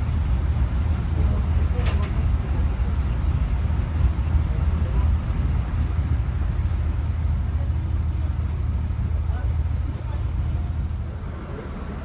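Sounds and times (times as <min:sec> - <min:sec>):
boat engine rumble: 0:00.0 - 0:12.0
wind and water rushing: 0:00.0 - 0:12.0.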